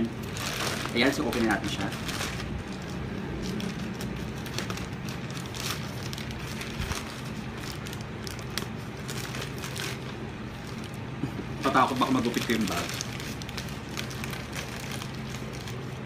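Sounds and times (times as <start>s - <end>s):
plastic pouch crinkling: 0.0s - 16.0s.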